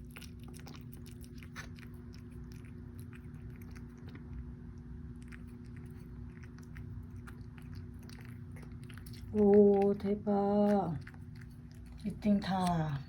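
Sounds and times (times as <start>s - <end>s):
kitten chewing food: 0.0s - 13.0s.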